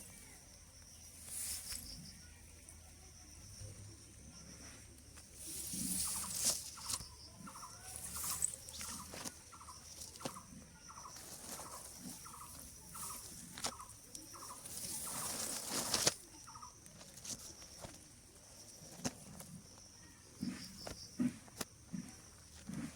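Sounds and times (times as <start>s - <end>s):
high rustling hiss: 0.0s - 10.4s, 11.0s - 19.5s.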